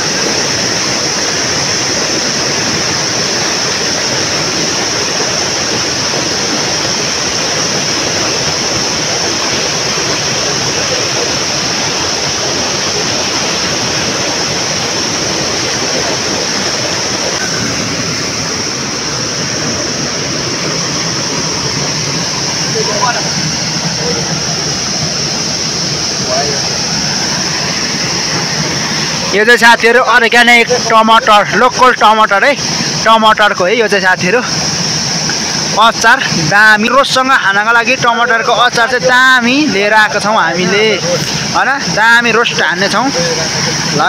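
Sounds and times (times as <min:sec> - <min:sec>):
stream water rushing: 0:00.0 - 0:44.0.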